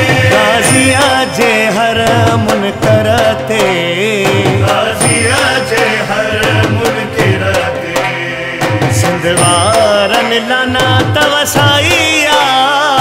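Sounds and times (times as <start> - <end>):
hand drum beat: 0.0 - 13.0
instrumental backing: 0.0 - 13.0
man singing ornamented lines: 0.0 - 13.0.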